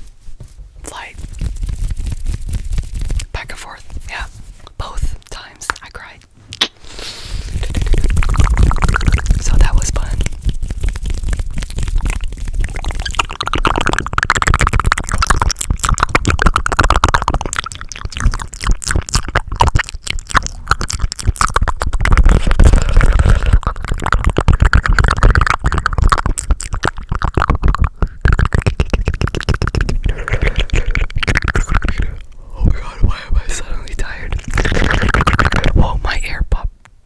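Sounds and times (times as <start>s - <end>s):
mouth clicks and smacks: 0.8s - 37.0s.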